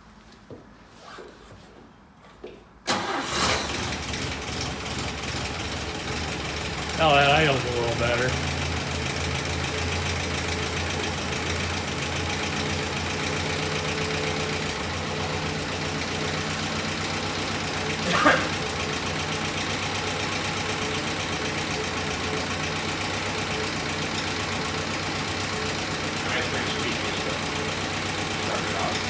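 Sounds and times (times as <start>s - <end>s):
engine idling with knock: 3.0s - 29.0s.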